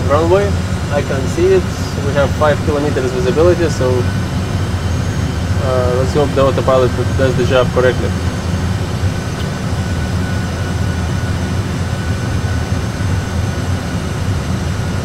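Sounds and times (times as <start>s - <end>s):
aircraft engine and airflow rumble: 0.0s - 15.0s.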